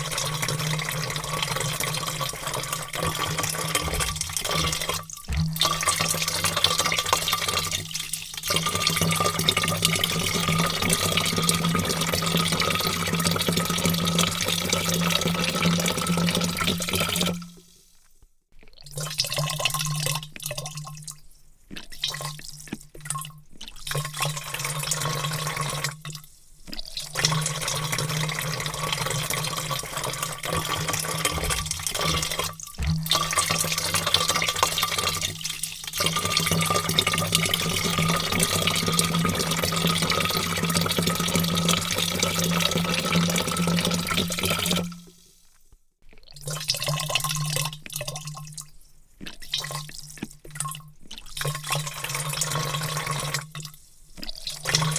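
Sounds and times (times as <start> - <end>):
water pouring into a vat: 0.0 - 54.9.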